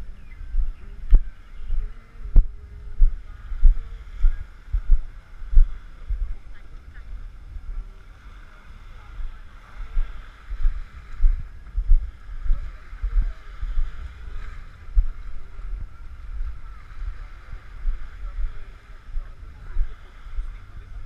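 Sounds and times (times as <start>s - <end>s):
steady background hiss: 0.0s - 21.0s
wind buffeting microphone: 0.0s - 21.0s.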